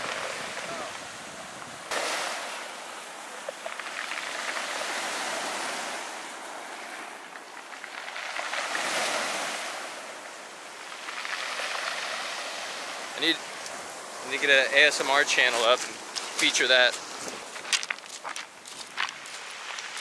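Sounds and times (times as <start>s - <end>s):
small waves washing on beach: 0.0s - 20.0s.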